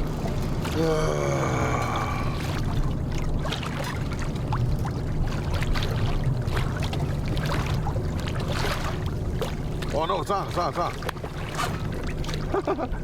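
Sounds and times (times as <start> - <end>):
steady low rumble: 0.0 - 13.0
water splashing against kayak hull: 1.4 - 13.0.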